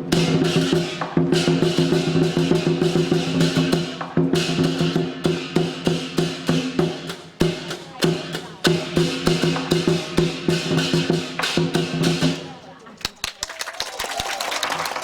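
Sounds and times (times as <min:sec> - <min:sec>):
rapid drum strokes: 0:00.0 - 0:12.6.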